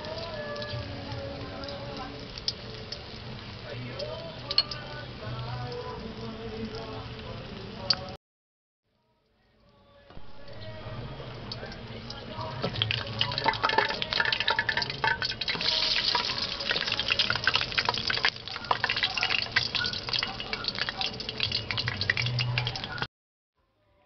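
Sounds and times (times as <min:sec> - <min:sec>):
oil sizzling in a wok: 0:00.0 - 0:07.9, 0:11.2 - 0:23.1.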